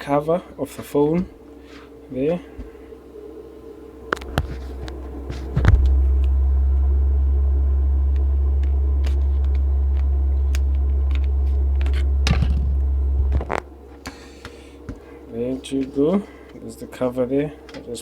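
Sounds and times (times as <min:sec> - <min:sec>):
loud low rumble: 0:00.0 - 0:17.7.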